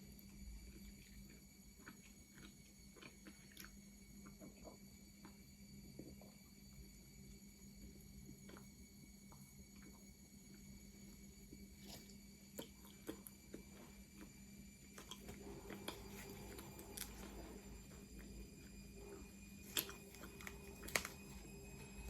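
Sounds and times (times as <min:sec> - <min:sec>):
chewing with crisp crackles: 0:00.0 - 0:22.0
low electrical hum: 0:00.0 - 0:22.0.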